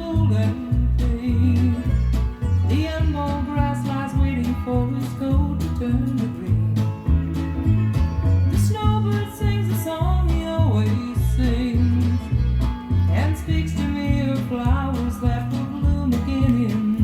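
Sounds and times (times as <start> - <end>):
song with singing guitar and bass: 0.0 - 17.0.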